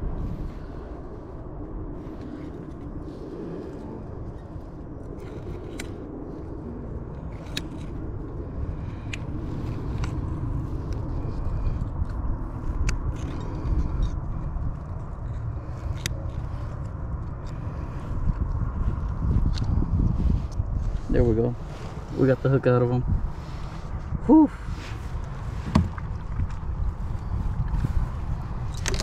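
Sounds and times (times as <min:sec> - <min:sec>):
microphone handling rumble: 0:03.6 - 0:29.0.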